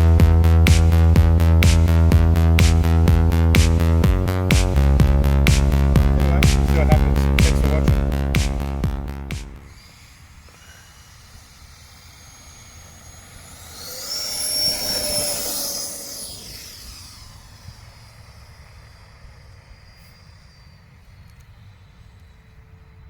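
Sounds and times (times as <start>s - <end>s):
model jet fan whine: 0.0s - 23.0s.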